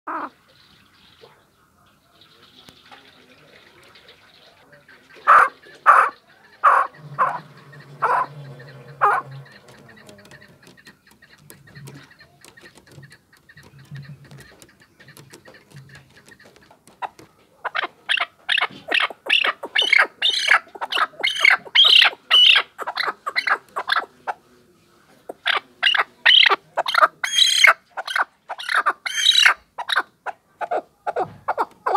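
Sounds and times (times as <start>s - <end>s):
partridge calling: 0.1s - 24.4s, 25.1s - 31.9s.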